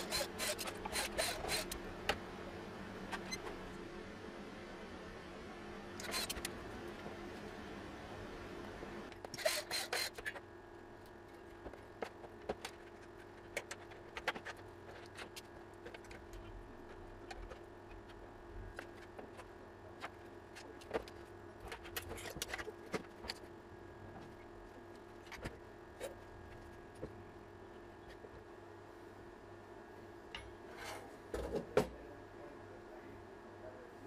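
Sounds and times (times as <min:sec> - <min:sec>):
faint hum: 0:00.0 - 0:34.0.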